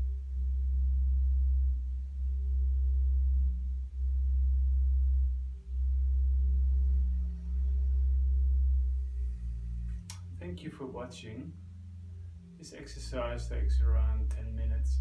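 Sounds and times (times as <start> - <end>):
faint higher tones: 0.0 - 15.0
steady low hum: 0.0 - 15.0.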